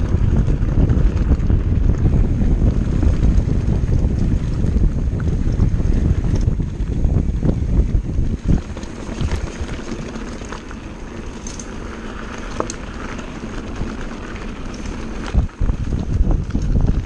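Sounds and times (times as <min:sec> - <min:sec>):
bike clicks and rattles: 0:00.0 - 0:17.0
tyres on loose gravel: 0:00.0 - 0:17.0
wind buffeting microphone: 0:00.0 - 0:17.0.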